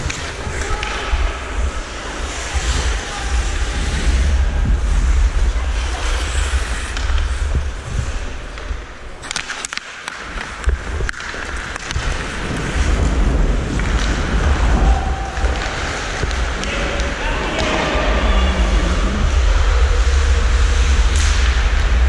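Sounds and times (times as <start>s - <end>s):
wind buffeting microphone: 0.0s - 9.2s, 11.9s - 22.0s.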